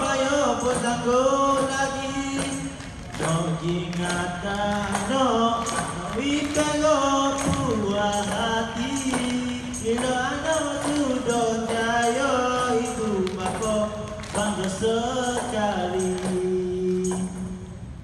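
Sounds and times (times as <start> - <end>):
person singing: 0.0 - 17.6
light percussion hits: 0.0 - 17.8.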